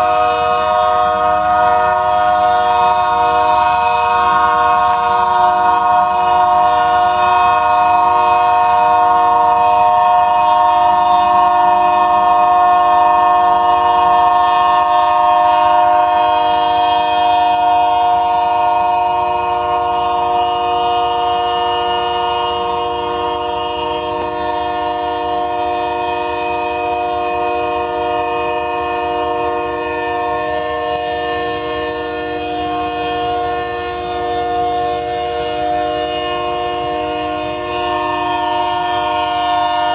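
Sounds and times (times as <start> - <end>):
locomotive air horn chord: 0.0 - 39.9.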